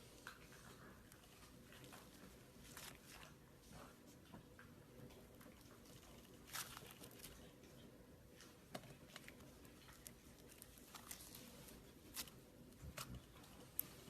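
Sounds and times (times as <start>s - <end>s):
slime squishes: 0.0s - 14.0s.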